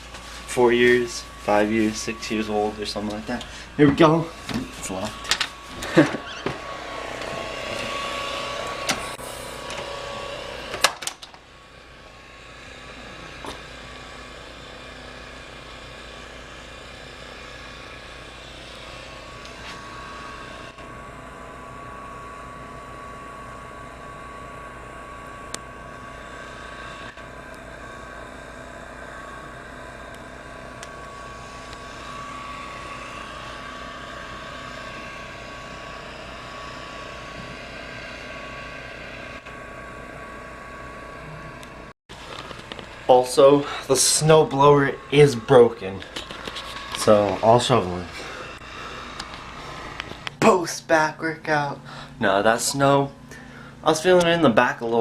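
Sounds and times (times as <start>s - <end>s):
snowblower engine running: 0.0s - 55.0s.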